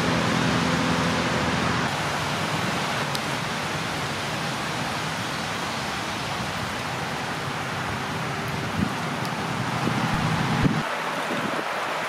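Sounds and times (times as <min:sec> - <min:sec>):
light drizzling rain hiss: 0:00.0 - 0:12.0.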